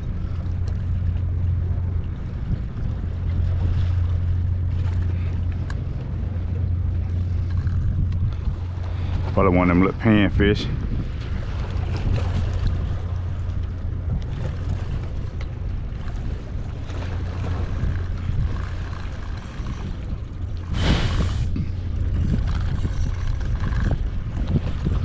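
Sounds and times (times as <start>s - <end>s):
low rumble: 0.0s - 25.0s
wind on microphone: 0.0s - 25.0s.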